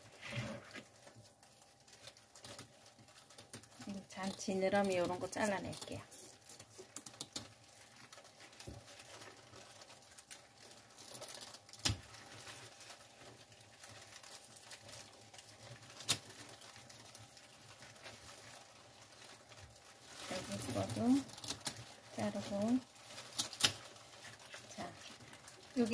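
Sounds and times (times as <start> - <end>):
clicking and rustling of gloves: 0.0 - 25.9.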